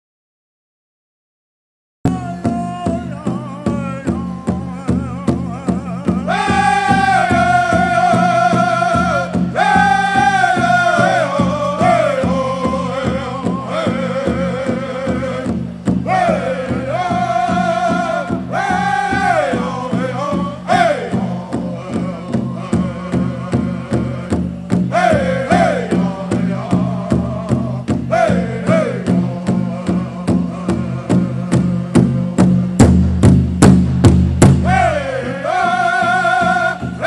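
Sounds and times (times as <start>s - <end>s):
large drum beating: 2.1s - 37.0s
group singing: 2.2s - 32.6s, 34.6s - 37.0s.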